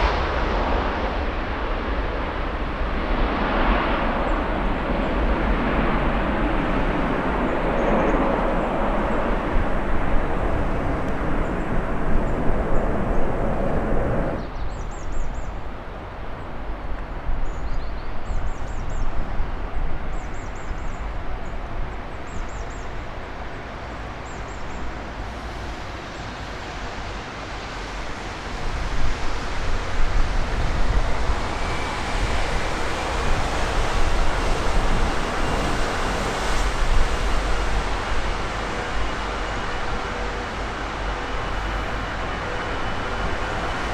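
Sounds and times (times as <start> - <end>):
faint rising jet whine: 0.0 - 14.6, 22.6 - 43.9
jet airliner engine noise: 0.0 - 43.9.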